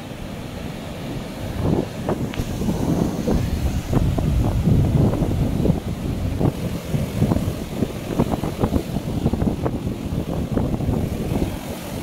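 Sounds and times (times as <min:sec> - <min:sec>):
surf washing over rocks: 0:00.0 - 0:12.0
wind rumbling on microphone: 0:00.0 - 0:12.0.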